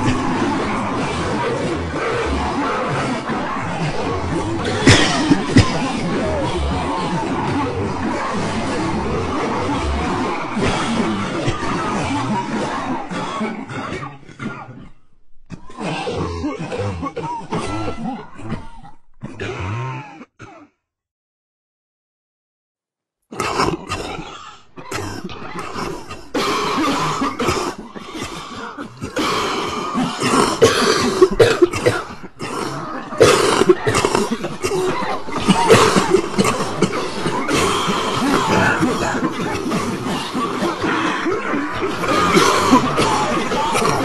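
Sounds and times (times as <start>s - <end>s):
many people coughing: 0.0s - 20.7s, 23.3s - 44.0s.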